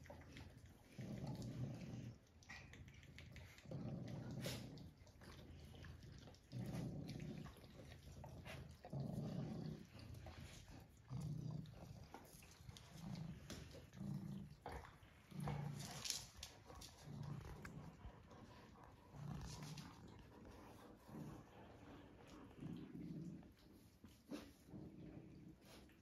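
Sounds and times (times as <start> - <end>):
pet purring rumble: 0.0 - 2.7, 3.4 - 26.0.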